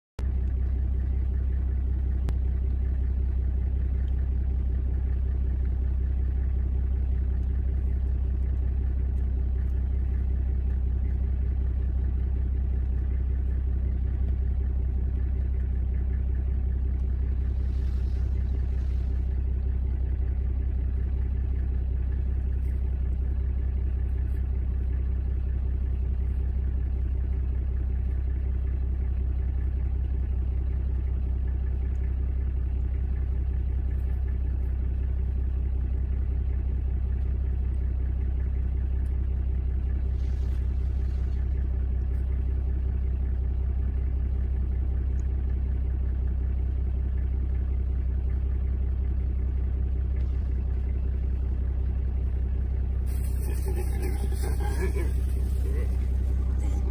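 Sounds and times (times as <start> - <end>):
vehicle engine idling: 0.2 - 56.9.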